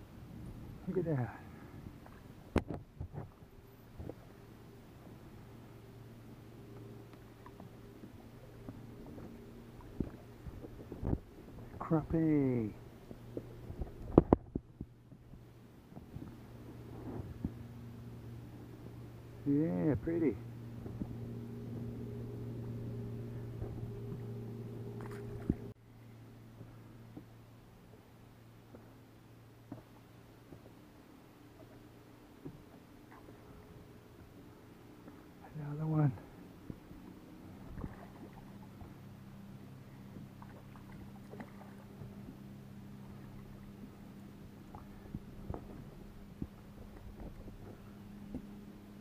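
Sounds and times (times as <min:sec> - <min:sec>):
electric trolling motor humming: 0:00.0 - 0:49.0.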